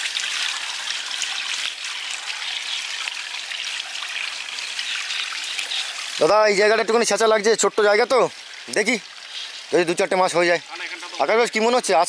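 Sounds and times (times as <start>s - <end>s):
water pouring from a bucket: 0.0s - 12.0s.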